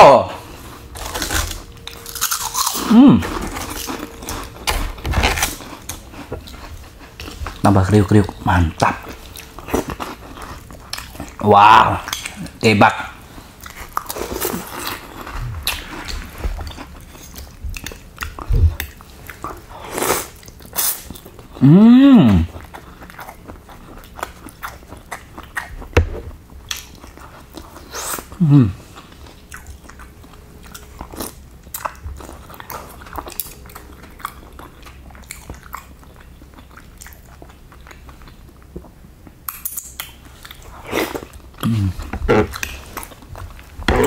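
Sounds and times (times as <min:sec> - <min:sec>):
person chewing crunchy food: 0:00.4 - 0:12.6, 0:13.2 - 0:44.0.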